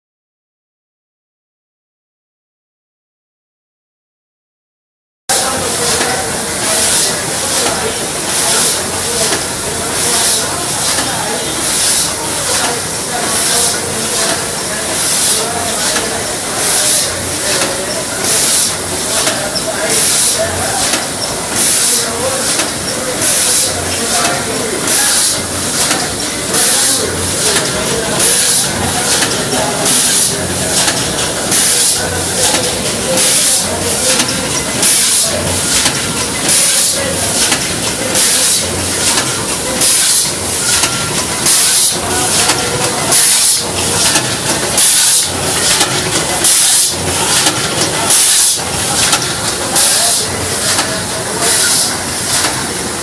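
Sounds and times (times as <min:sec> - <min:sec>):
packaging machine hissing: 0:05.4 - 0:53.0
steady mechanical din: 0:05.4 - 0:53.0.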